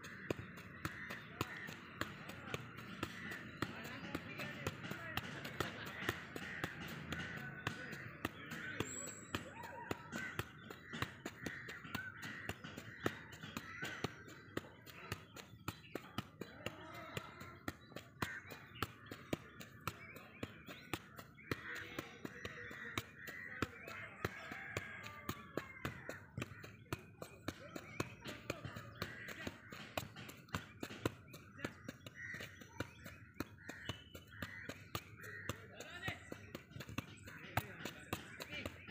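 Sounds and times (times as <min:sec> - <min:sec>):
birds calling: 0:00.0 - 0:38.9
foot tapping soccer ball: 0:00.0 - 0:38.9.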